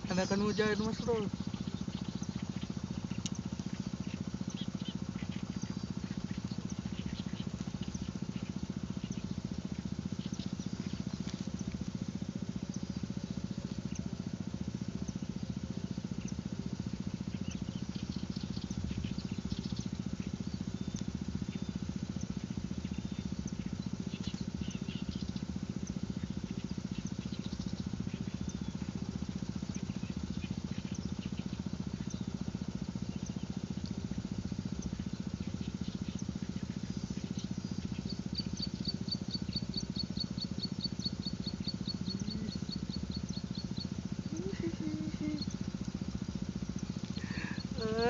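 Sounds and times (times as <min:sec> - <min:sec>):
rapid high chirps: 0:00.0 - 0:48.0
small engine droning: 0:00.0 - 0:48.0.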